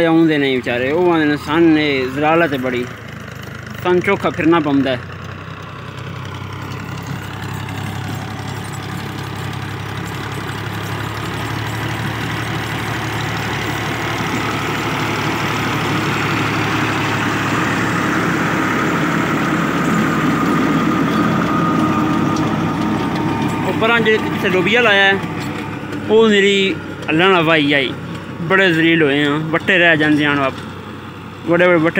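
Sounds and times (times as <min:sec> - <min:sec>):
rotavator blades churning: 0:00.0 - 0:31.9
tractor diesel engine running: 0:00.0 - 0:31.9.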